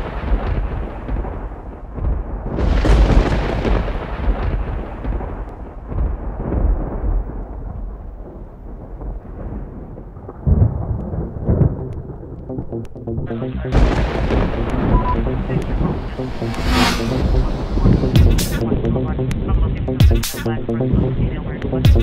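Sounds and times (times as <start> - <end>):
thunderclap with rumble: 0.0 - 12.7, 13.8 - 18.8.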